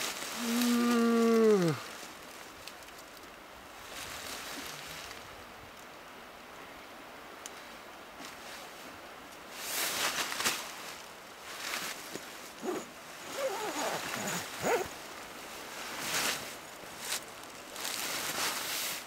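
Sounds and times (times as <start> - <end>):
rustling in dry leaves and nylon: 0.0 - 6.1, 7.6 - 19.0.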